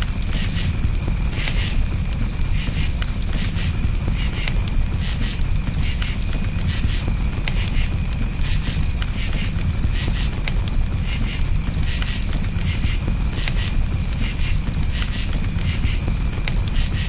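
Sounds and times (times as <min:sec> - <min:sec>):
campfire crackling: 0:00.0 - 0:17.0
crickets chirping in pulses: 0:00.0 - 0:17.0
steady low rumble: 0:00.0 - 0:17.0.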